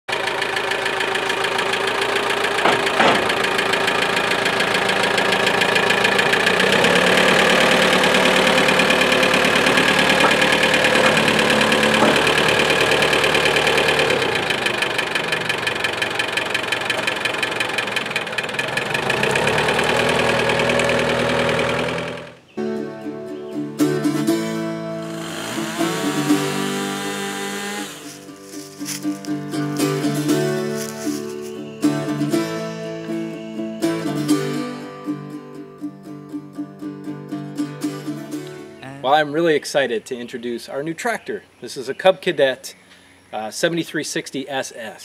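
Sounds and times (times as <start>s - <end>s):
diesel tractor engine running: 0.1s - 41.2s.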